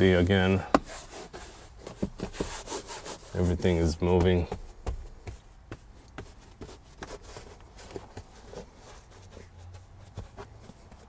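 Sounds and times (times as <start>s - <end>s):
trim panel tapping and rubbing: 0.0s - 11.0s.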